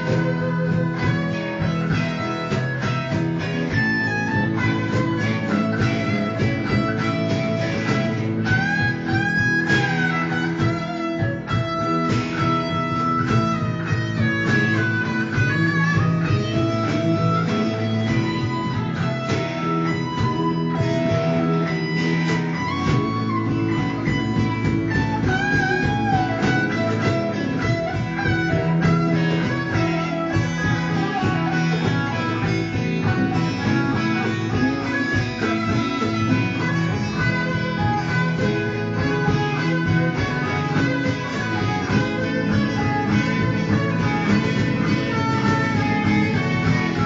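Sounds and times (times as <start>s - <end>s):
live band with guitars: 0.0s - 47.0s.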